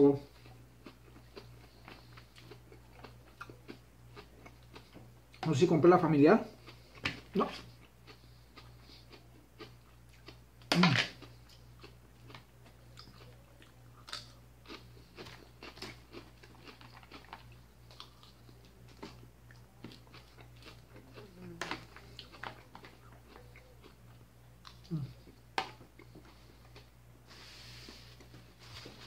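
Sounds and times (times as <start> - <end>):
person chewing crunchy greens: 0.2 - 5.5, 6.5 - 29.0.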